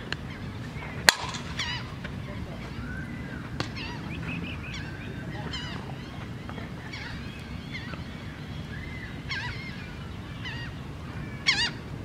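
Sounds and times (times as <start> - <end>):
bird squawking calls: 1.3 - 11.9.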